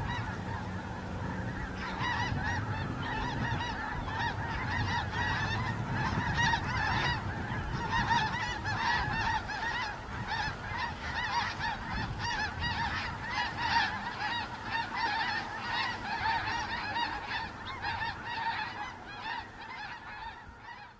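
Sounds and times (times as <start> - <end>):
flock of geese honking: 0.0 - 20.9.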